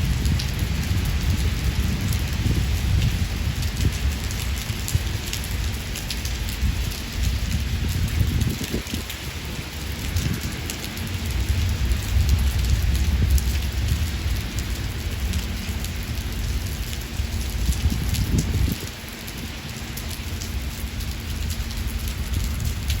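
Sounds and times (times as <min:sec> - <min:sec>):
thunder rumbling: 0:00.0 - 0:18.9
heavy rain pattering: 0:00.0 - 0:23.0.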